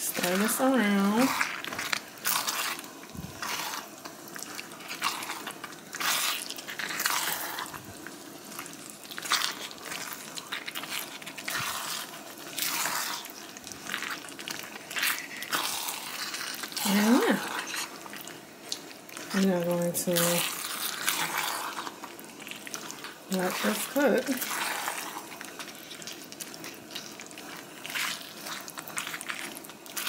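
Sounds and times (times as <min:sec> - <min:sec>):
wet stirring in a wok: 0:00.0 - 0:30.0.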